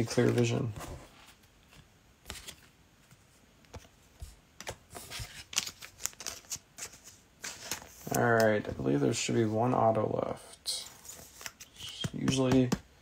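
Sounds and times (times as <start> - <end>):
trading cards rustling and clicking: 0.0 - 9.3, 10.7 - 12.9.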